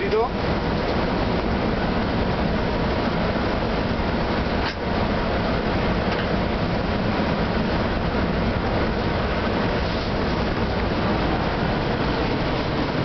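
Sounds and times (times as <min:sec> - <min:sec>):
locomotive cab running noise: 0:00.0 - 0:13.0.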